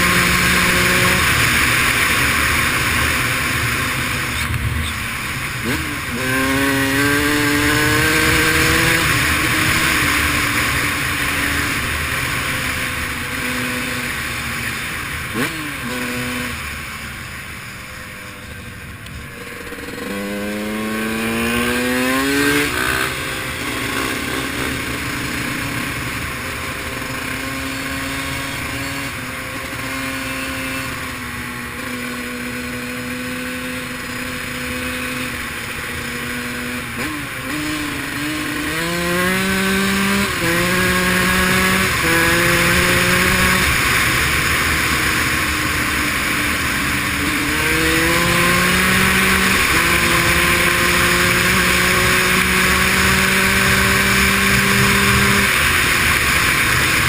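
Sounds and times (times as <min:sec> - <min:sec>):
constant rushing noise: 0:00.0 - 0:57.0
dirt bike engine accelerating: 0:00.0 - 0:57.0.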